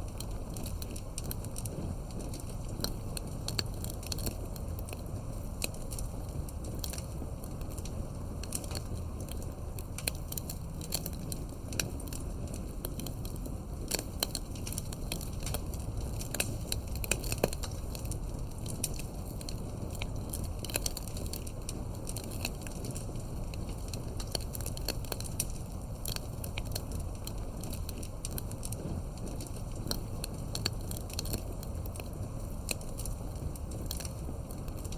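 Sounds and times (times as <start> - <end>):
campfire crackling and popping: 0.0 - 34.9
low rumble of flames: 0.0 - 34.9.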